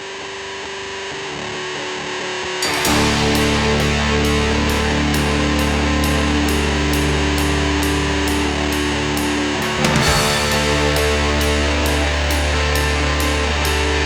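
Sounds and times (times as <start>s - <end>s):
distorted electric guitar: 2.6s - 14.0s
steady rock beat: 2.6s - 14.0s.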